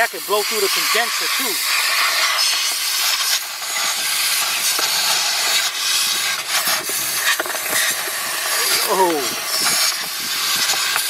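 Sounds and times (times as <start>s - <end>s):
compressed air gun hissing: 0.0s - 11.0s.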